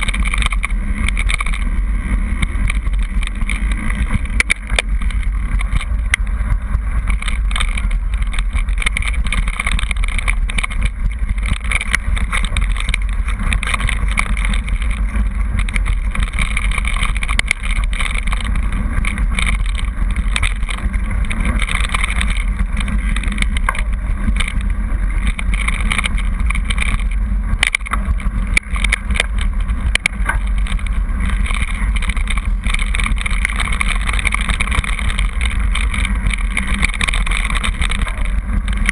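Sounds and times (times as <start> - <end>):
bike tyres rumbling on gravel: 0.0 - 38.9
stones and bike rattling: 0.0 - 38.9
wind buffeting microphone: 0.0 - 38.9.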